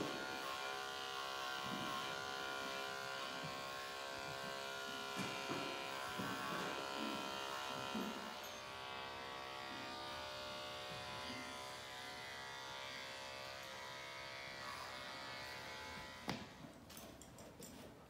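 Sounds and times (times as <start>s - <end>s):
small motor buzzing: 0.0s - 16.6s.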